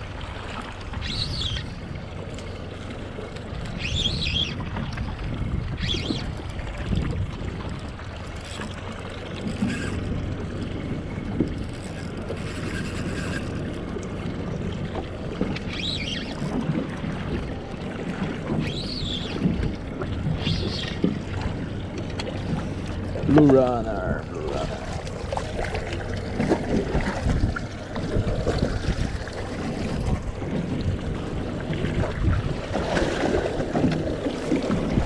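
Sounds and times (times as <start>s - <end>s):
wind buffeting microphone: 3.5s - 8.5s, 9.3s - 35.0s.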